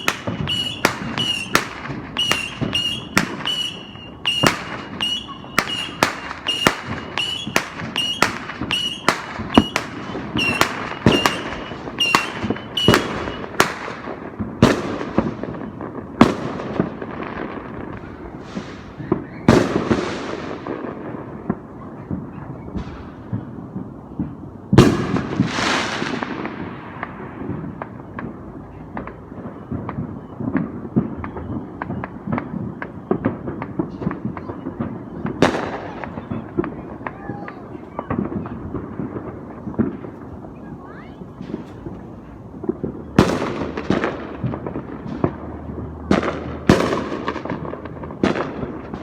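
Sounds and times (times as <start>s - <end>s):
distant echoing firework bangs: 0.0s - 49.0s
firework shots with whistles: 0.0s - 49.0s.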